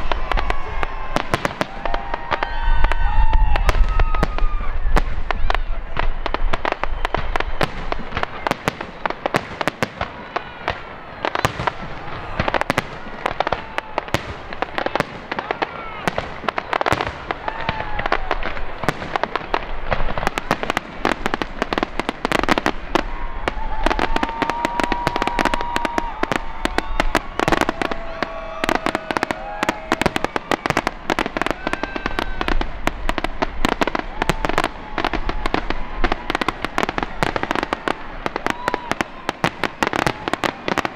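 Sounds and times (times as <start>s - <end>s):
firework bursts and crackling: 0.0s - 40.9s.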